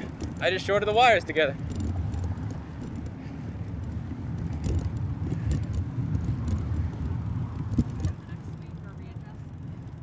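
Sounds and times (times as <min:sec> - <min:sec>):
wind buffeting microphone: 0:00.0 - 0:08.8
bicycle road rumble: 0:00.0 - 0:10.0.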